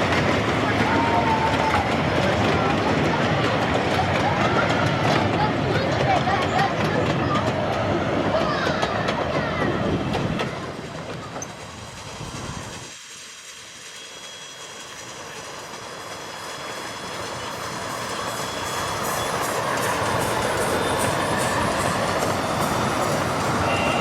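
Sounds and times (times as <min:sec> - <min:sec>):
steam train wheels clicking on rails: 0:00.0 - 0:24.0.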